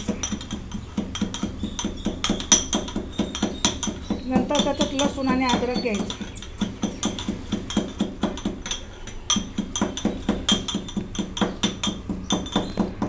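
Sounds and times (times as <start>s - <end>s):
pestle pounding in metal mortar: 0.0s - 13.0s.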